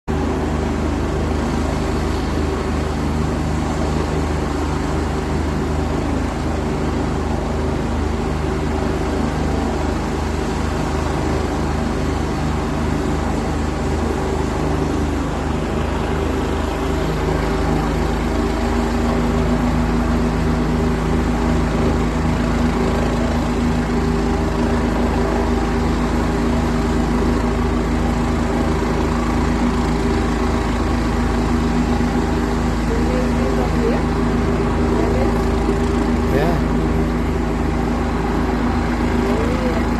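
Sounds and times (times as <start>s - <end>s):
helicopter engine and rotor: 0.1s - 39.9s
steady hum: 0.1s - 39.9s.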